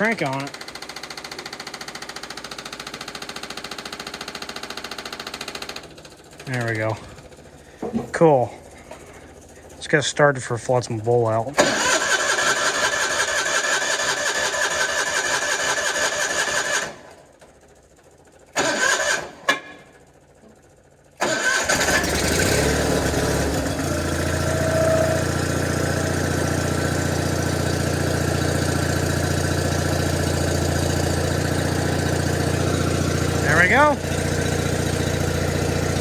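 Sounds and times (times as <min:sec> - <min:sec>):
engine cranking: 0:00.0 - 0:17.2, 0:18.4 - 0:19.7, 0:21.2 - 0:36.0
engine idling: 0:00.0 - 0:36.0.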